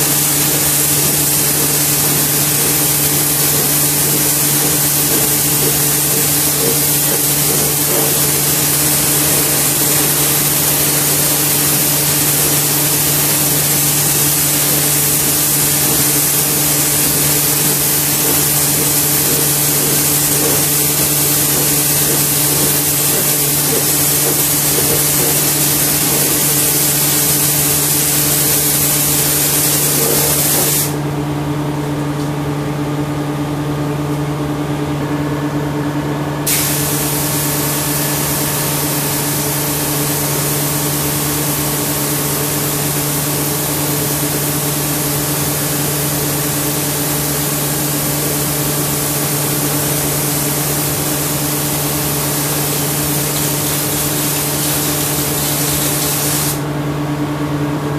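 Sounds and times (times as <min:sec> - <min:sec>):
spray guns hissing: 0:00.0 - 0:31.0, 0:36.5 - 0:46.8, 0:48.2 - 0:56.6.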